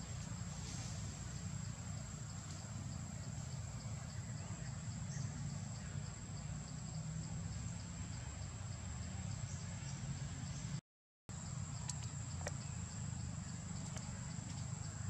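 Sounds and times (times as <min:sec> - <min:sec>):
insects chirring: 0:00.0 - 0:10.6, 0:11.3 - 0:15.0
low steady rumble: 0:00.0 - 0:15.0.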